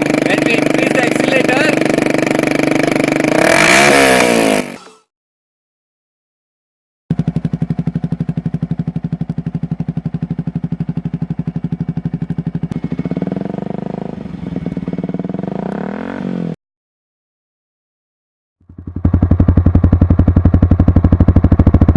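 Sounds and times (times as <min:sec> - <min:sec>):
motorcycle engine idling and revving: 0:00.0 - 0:04.9, 0:07.1 - 0:16.6, 0:18.6 - 0:21.9.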